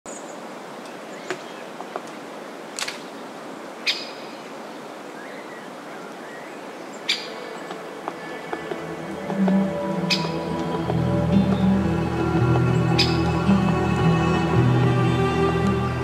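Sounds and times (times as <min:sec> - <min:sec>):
open air hiss: 0:00.1 - 0:16.0.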